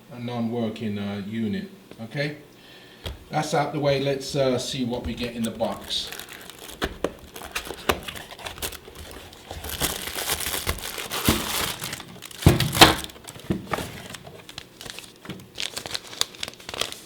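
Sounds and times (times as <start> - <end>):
wrapping crinkling and rustling: 3.2 - 17.0.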